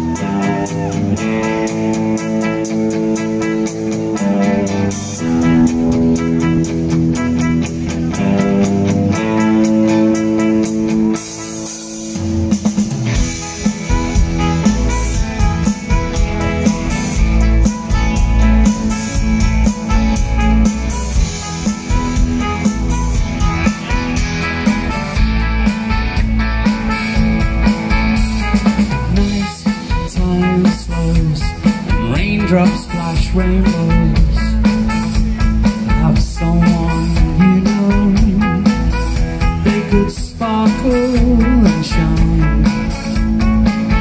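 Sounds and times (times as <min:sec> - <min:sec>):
bass guitar: 0:00.0 - 0:44.0
drum kit: 0:00.0 - 0:44.0
electric guitars: 0:00.0 - 0:44.0
rock band playing: 0:00.0 - 0:44.0.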